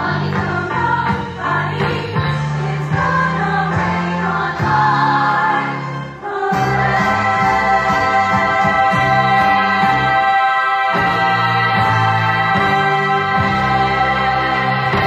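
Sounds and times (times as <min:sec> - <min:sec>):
instrumental accompaniment: 0:00.0 - 0:15.0
show choir singing: 0:00.0 - 0:15.0.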